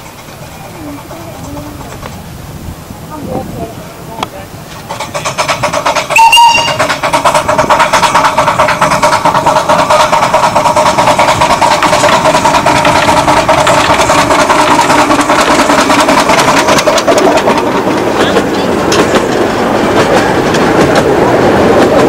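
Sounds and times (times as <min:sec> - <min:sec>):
locomotive fast beat: 0:00.0 - 0:02.4, 0:03.1 - 0:22.0.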